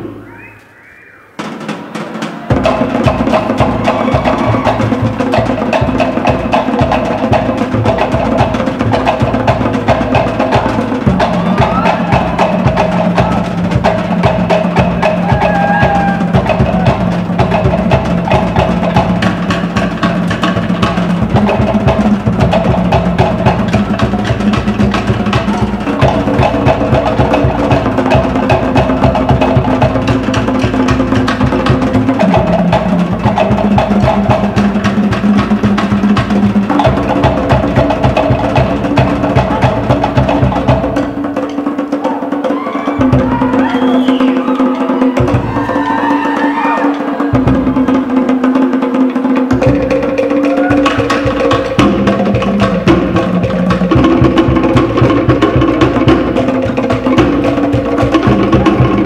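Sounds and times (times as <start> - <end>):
drum ensemble fast rhythm: 0.0 - 59.0.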